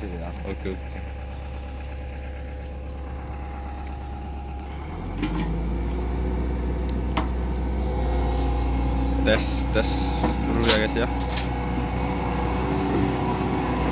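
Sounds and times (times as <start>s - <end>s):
excavator diesel engine idling: 0.0s - 13.9s.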